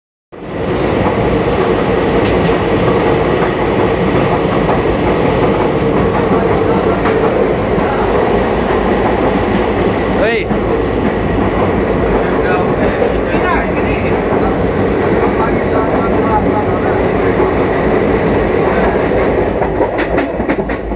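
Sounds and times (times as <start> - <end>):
train wheels rumbling on rails: 0.4 - 20.9.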